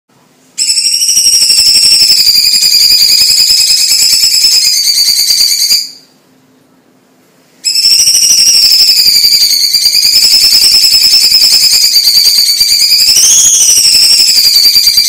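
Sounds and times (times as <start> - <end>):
bird singing rapid trill: 0.6 - 6.0, 7.6 - 15.0.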